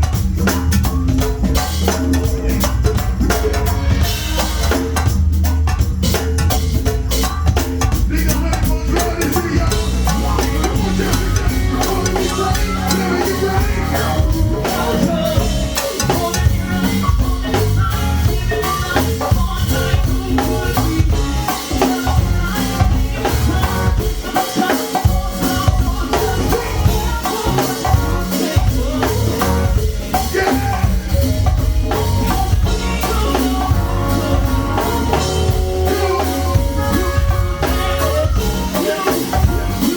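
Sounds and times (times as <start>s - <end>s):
band drum and percussion groove: 0.0s - 39.9s.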